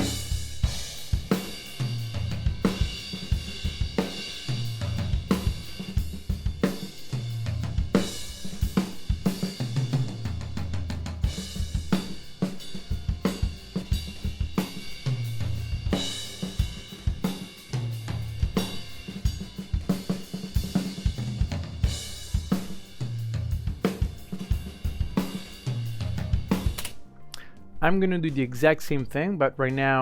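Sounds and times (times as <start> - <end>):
deep low drum notes: 0.0 - 26.8
drum kit playing a groove: 0.0 - 30.0.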